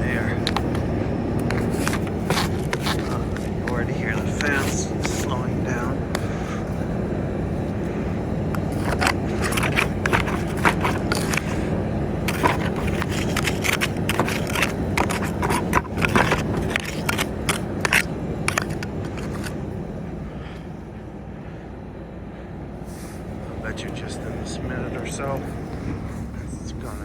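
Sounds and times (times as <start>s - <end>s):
snow crunching and scraping: 0.0s - 20.4s, 22.8s - 27.0s
radiator cooling fans: 0.0s - 27.0s
vehicle engine running: 0.0s - 27.0s.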